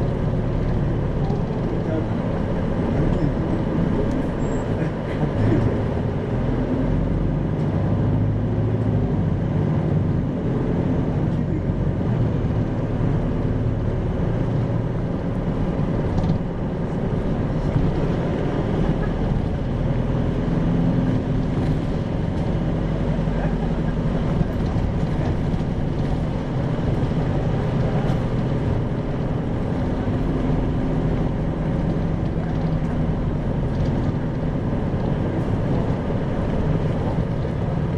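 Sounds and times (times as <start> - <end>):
bus diesel engine running: 0.0 - 37.9
road noise: 0.0 - 37.9.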